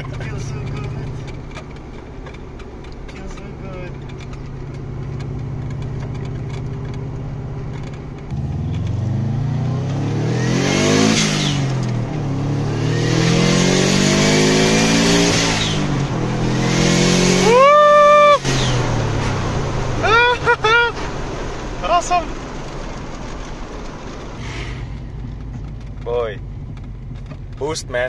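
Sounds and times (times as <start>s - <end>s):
turbocharged car engine accelerating: 0.0s - 28.0s.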